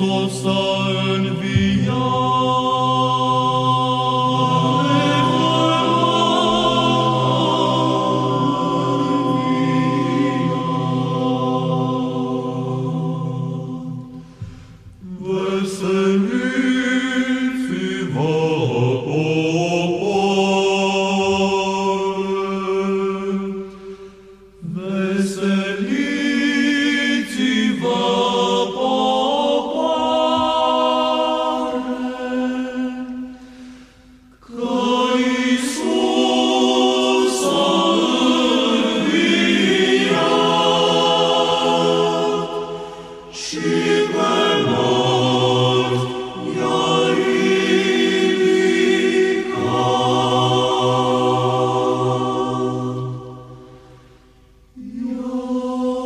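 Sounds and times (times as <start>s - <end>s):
choir chanting: 0.0s - 56.0s.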